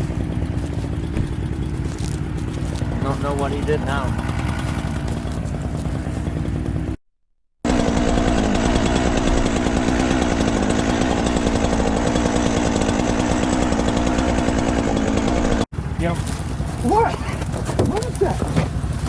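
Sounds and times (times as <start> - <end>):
chainsaw engine running: 0.0 - 7.0, 7.7 - 19.0.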